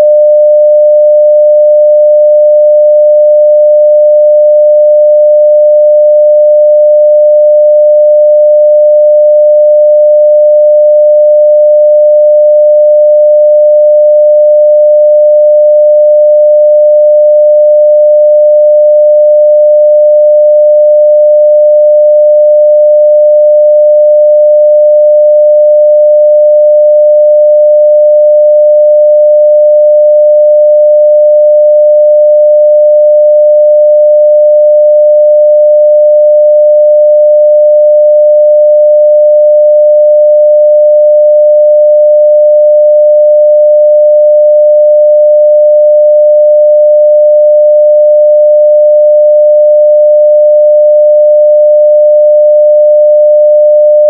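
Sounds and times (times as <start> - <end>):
sine-wave test tone: 0.0 - 54.0.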